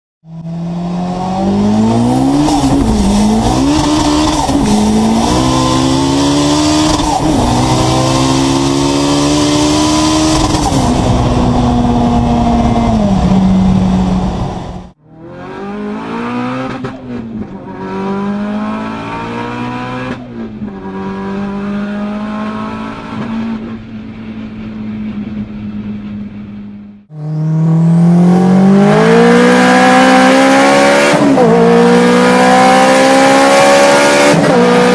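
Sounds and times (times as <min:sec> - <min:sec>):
high-revving car engine: 0:00.3 - 0:34.9.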